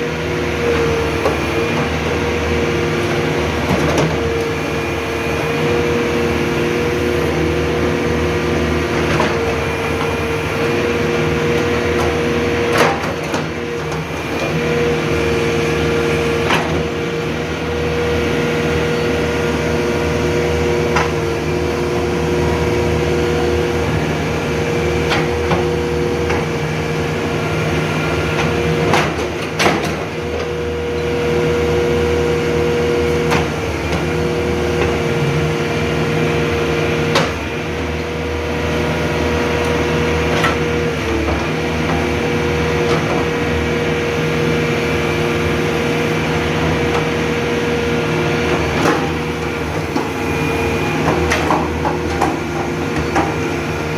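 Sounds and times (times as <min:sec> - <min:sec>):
diesel engine whining: 0:00.0 - 0:53.9.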